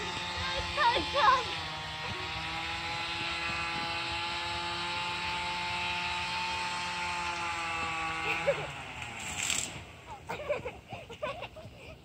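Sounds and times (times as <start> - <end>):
steady engine drone: 0.0 - 12.0.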